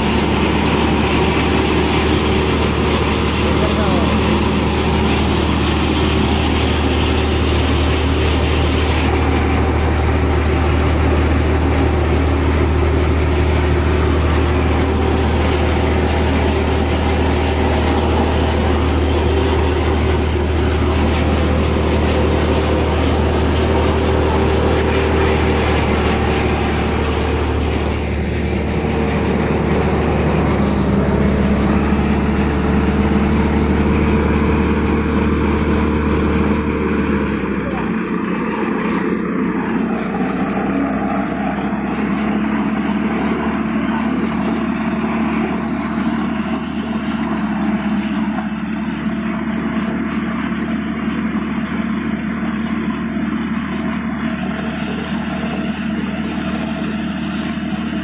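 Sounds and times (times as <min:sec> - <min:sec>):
heavy engine humming: 0:00.0 - 0:58.0.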